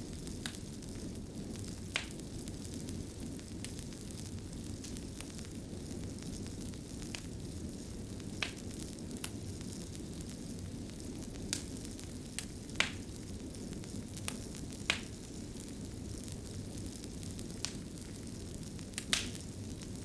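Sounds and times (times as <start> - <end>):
fire crackles and pops: 0.0 - 20.0
wood fire rumbling: 0.0 - 20.0.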